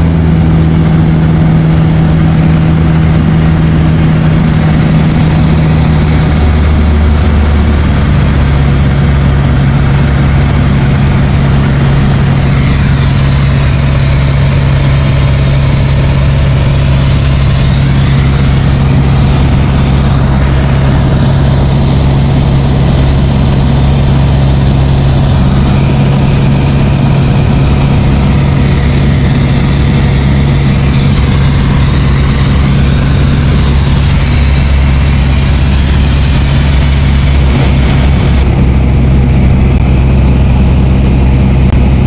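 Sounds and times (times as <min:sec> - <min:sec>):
propeller aircraft engine droning: 0:00.0 - 0:42.0.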